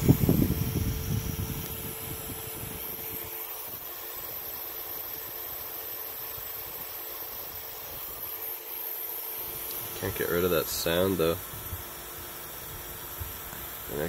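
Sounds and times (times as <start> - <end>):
electrical hiss: 0.0 - 14.0
high-pitched electrical whine: 0.0 - 14.0.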